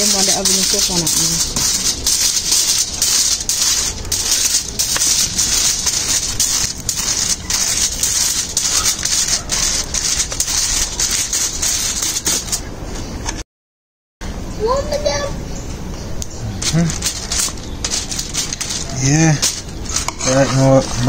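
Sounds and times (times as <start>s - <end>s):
coal fire crackling and hissing: 0.0s - 12.7s, 16.2s - 21.0s.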